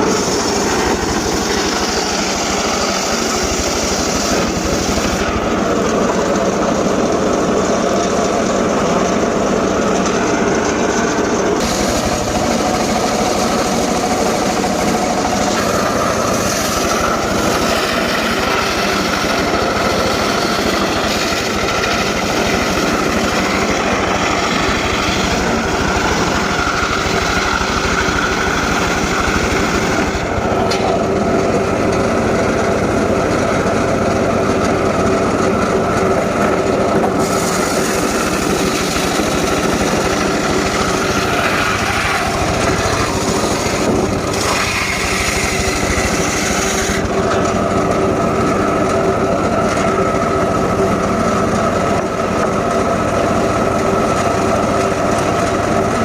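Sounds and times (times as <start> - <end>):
engine-driven saw cutting wood: 0.0 - 56.0.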